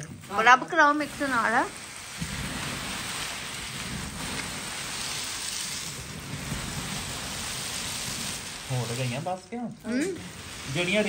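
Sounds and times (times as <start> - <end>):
peanuts and popcorn rattling: 0.0 - 11.0.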